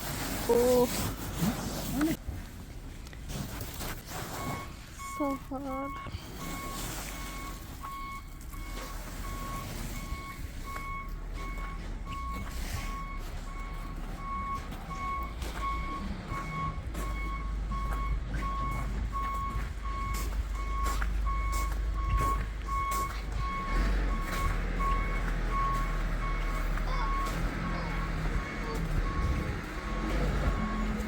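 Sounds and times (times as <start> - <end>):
truck engine rumble: 0.0 - 31.0
back-up alarm beeping: 4.1 - 31.0.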